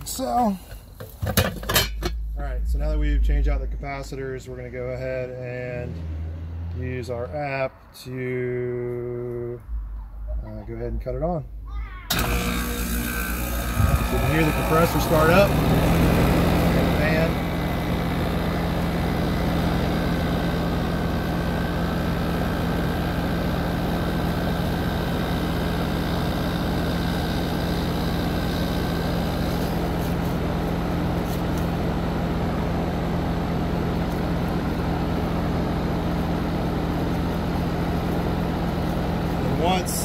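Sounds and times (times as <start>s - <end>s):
heat pump compressor humming: 0.0s - 5.3s, 12.1s - 40.0s.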